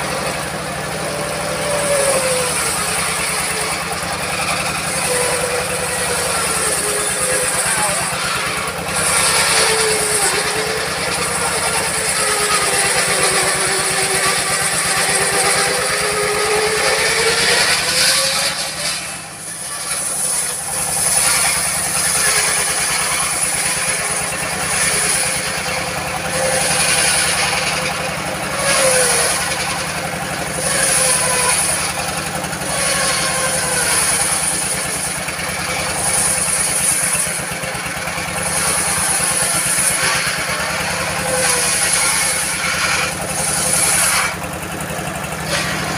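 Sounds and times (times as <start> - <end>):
circular saw cutting log: 0.0 - 45.9
diesel engine running: 0.0 - 45.9
high hiss of saw: 0.0 - 45.9.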